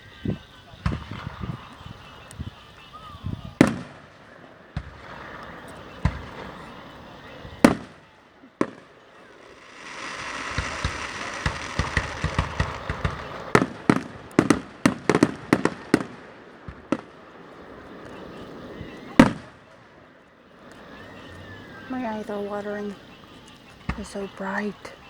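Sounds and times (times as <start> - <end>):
fireworks bangs: 0.0 - 25.0
fireworks crackling hiss: 0.0 - 25.0.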